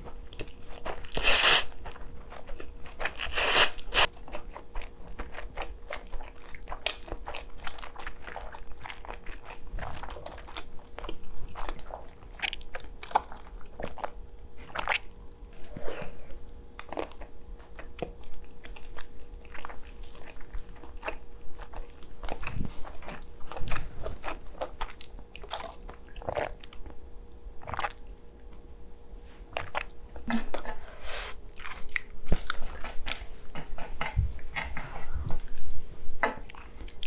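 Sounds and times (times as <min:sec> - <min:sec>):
person chewing food: 0:00.0 - 0:28.7, 0:29.4 - 0:37.0.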